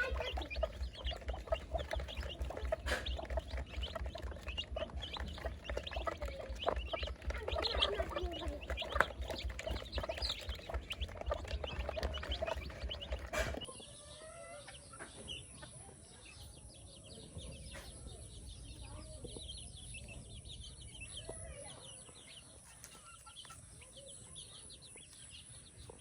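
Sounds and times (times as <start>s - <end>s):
baby chicks peeping: 0.0s - 26.0s.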